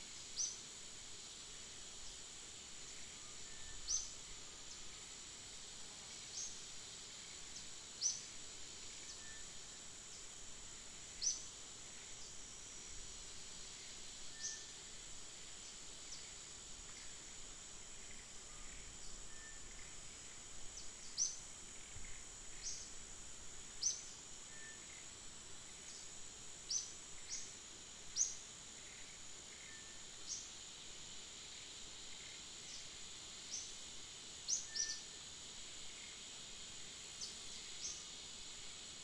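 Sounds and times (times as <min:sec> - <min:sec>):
high-pitched insect drone: 0:00.1 - 0:39.0.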